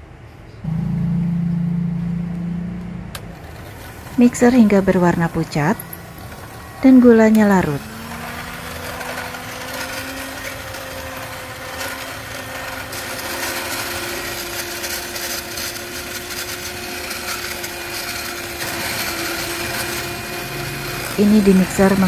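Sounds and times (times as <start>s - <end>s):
electric hand mixer whine: 0.7s - 22.0s.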